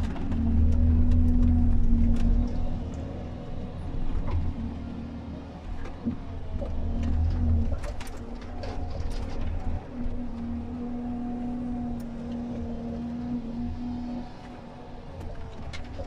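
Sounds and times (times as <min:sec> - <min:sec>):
diesel engine and hydraulics: 0:00.0 - 0:16.0.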